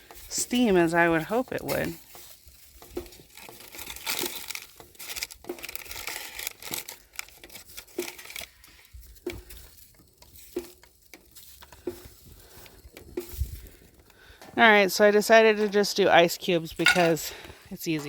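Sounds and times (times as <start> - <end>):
snow sizzling on hot pot: 0.0 - 18.0.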